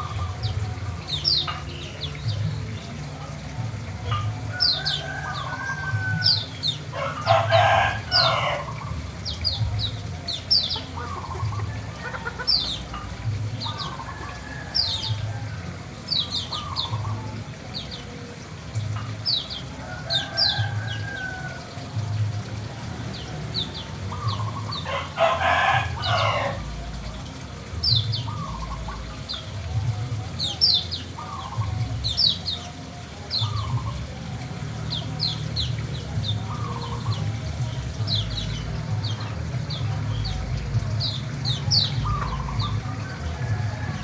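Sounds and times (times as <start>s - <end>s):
birds chirping: 0.0s - 44.0s
chickens calling: 4.0s - 44.0s.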